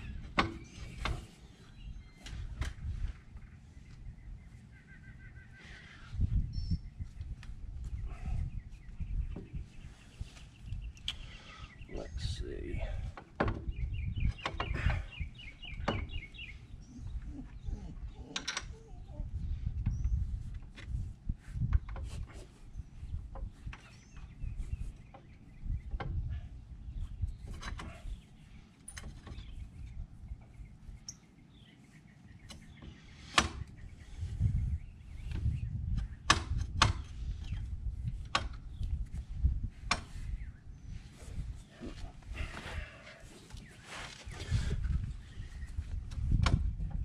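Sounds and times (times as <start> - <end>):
low rumbling handling noise: 0.0 - 4.7, 5.4 - 47.0.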